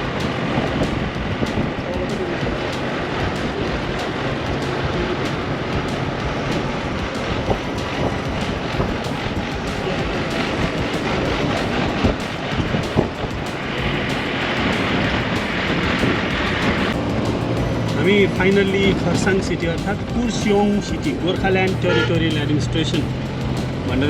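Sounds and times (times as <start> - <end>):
engine and tyre noise in cabin: 0.0 - 24.0.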